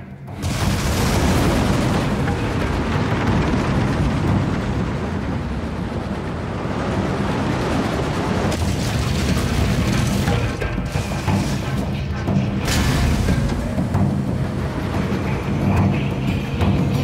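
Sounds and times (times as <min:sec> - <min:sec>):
mine cart rumbling on rails: 0:00.0 - 0:17.0.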